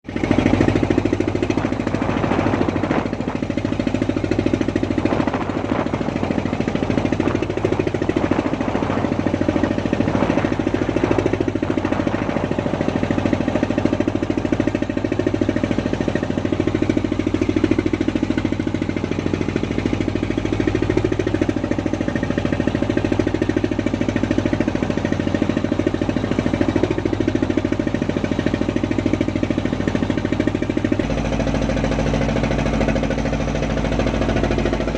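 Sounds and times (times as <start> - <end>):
boat engine knocking: 0.0 - 34.9.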